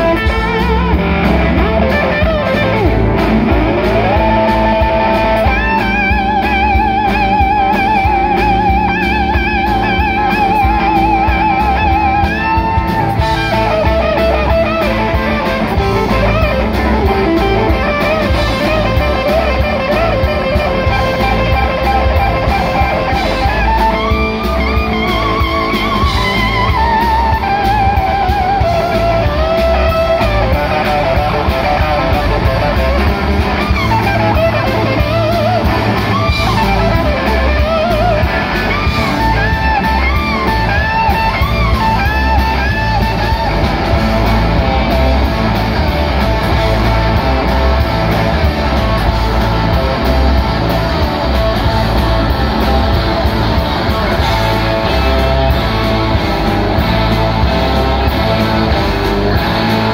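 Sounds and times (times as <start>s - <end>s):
bass guitar: 0.0s - 59.9s
drums: 0.0s - 59.9s
electric guitar solo: 0.0s - 59.9s.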